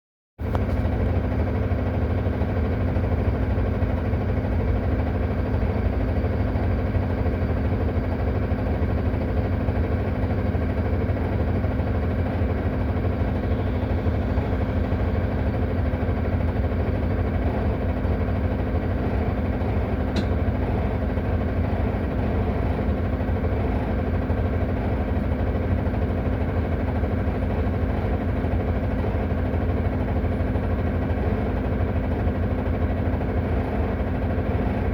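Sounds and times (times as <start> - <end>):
bus engine idling: 0.5 - 34.9.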